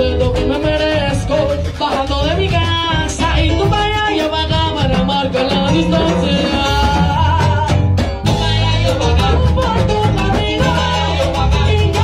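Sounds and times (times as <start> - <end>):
bass line: 0.0 - 12.0
salsa band playing: 0.0 - 12.0
woman singing lead: 0.5 - 12.0.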